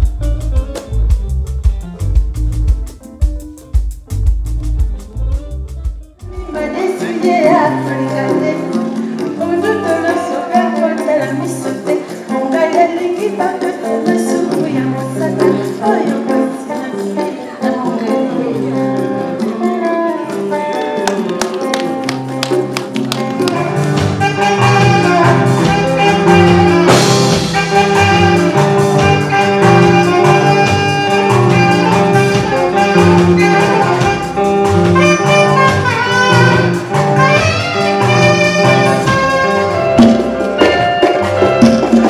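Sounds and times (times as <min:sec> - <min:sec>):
saxophone lead: 0:00.0 - 0:03.8, 0:04.7 - 0:22.4, 0:23.0 - 0:42.0
live band playing: 0:00.0 - 0:42.0.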